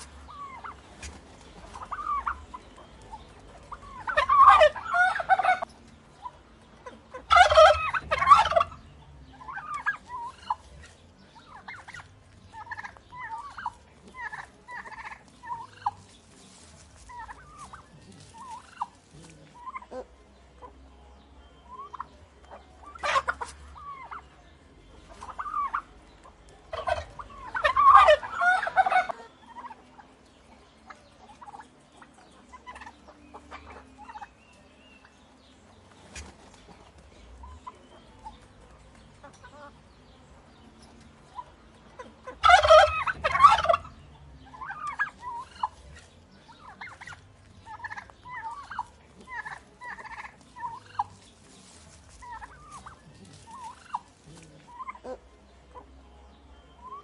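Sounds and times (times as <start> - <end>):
turkey gobbling: 0.0 - 20.9, 21.6 - 35.2, 35.8 - 39.8, 41.0 - 55.9, 56.8 - 57.0
soft turkey calls: 0.0 - 57.0.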